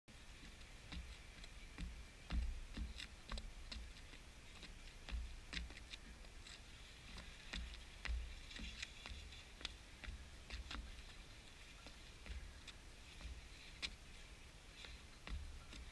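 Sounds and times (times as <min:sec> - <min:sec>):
footbag tapping sneakers: 0:00.4 - 0:15.9.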